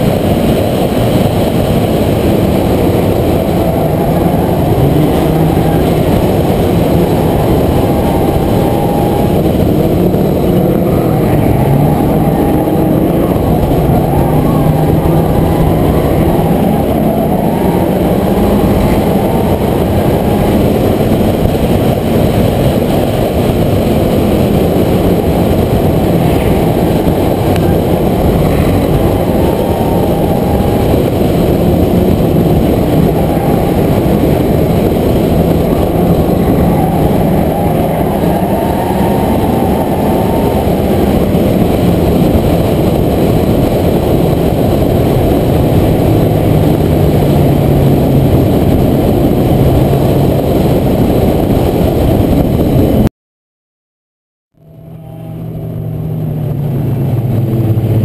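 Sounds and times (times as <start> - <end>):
race car engine running hard: 0.0 - 53.1, 54.6 - 58.0
road and wind noise: 0.0 - 53.1, 54.5 - 58.0.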